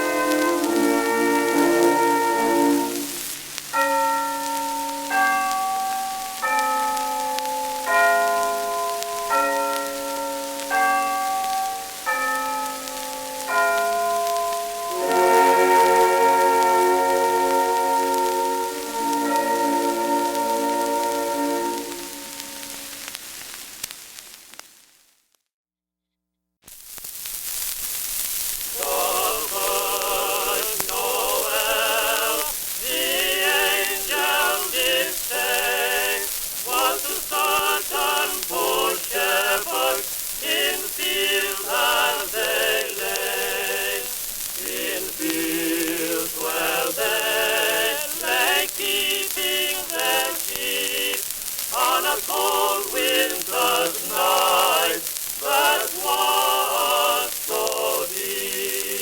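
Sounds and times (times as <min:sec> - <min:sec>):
old record of voices singing: 0:00.0 - 0:06.8, 0:07.4 - 0:23.2, 0:28.7 - 0:59.0
record surface hiss: 0:00.0 - 0:25.5, 0:26.6 - 0:59.0.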